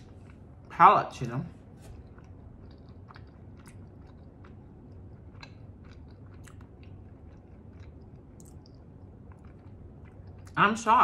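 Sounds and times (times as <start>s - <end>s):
person chewing food: 0.0s - 0.7s, 1.6s - 10.6s.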